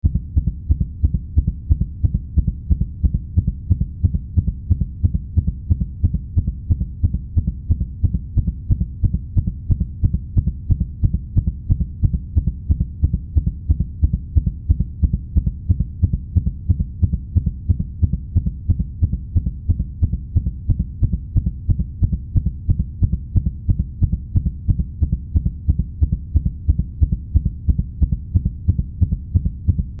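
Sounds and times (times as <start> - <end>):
continuous low hum: 0.0 - 30.0
heartbeat thuds: 0.0 - 30.0.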